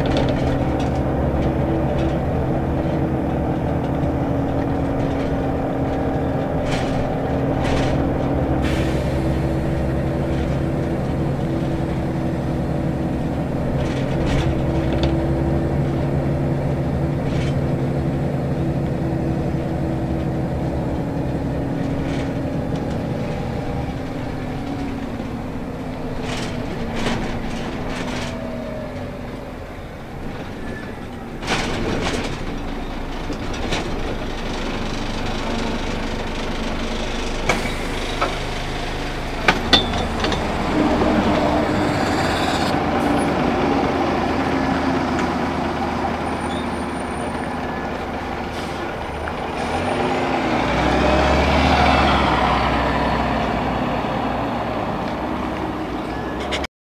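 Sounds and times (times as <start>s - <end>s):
bus diesel engine running: 0.0s - 56.7s.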